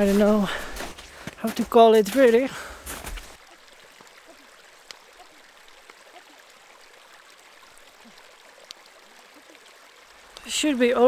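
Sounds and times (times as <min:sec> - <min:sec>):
stream trickling over stones: 0:00.0 - 0:11.0.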